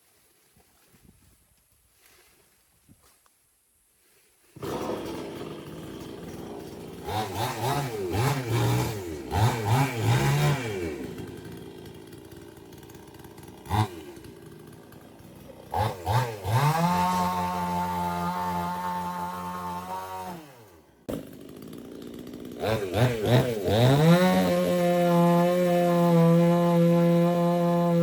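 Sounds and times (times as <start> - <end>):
chainsaw idling and revving: 4.6 - 28.0.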